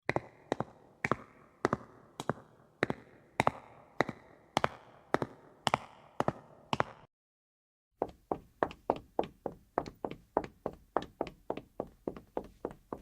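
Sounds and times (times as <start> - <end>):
high heels clicking on hard floor: 0.1 - 7.1, 8.0 - 13.0.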